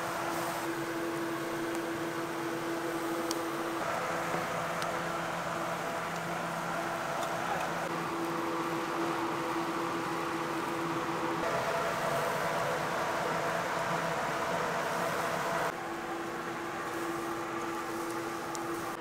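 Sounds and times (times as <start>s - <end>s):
mechanical hum with held tone: 0.0s - 19.0s.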